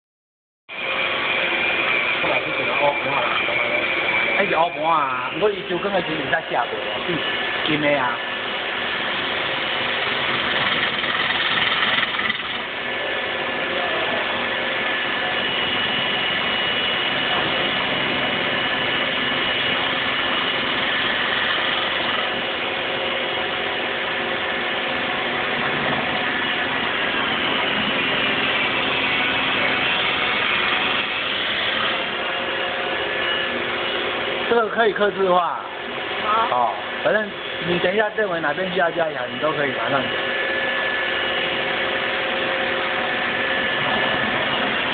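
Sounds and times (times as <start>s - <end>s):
wood lathe whirring: 0.7s - 44.9s.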